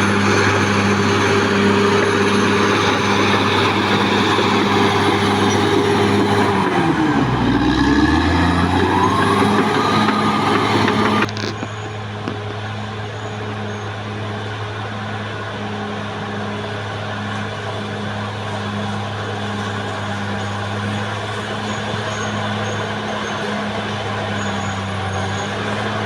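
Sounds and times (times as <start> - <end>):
bulldozer diesel engine working: 0.0 - 26.0.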